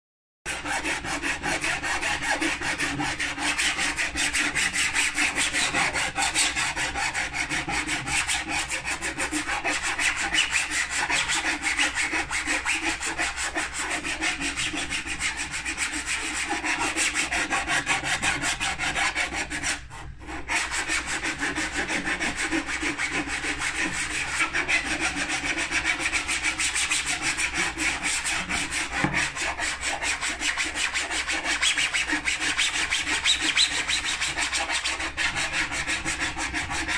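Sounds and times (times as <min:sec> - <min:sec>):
file scraping plastic: 0:00.5 - 0:36.9.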